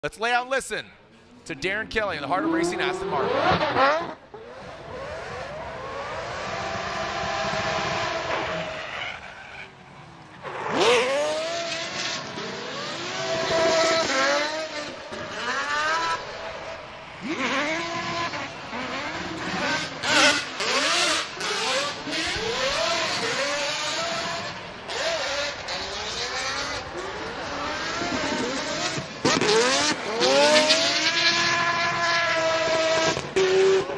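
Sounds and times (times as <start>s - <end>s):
car engine revving hard: 2.4s - 8.9s, 10.7s - 33.9s.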